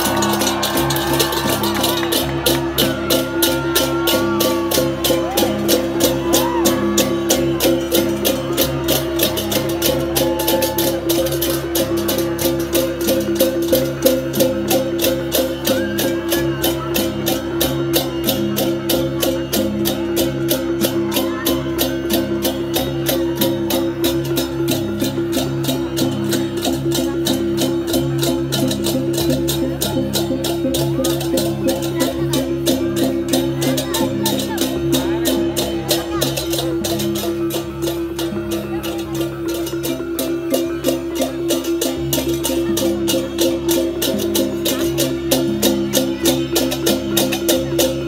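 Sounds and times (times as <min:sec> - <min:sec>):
fast percussion beat: 0:00.0 - 0:48.0.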